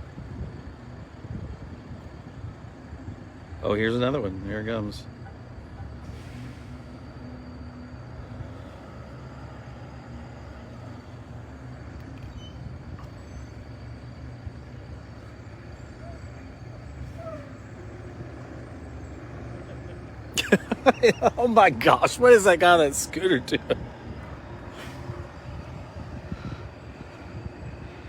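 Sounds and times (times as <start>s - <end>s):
road noise: 0.0s - 28.0s
truck diesel engine running: 0.7s - 28.0s.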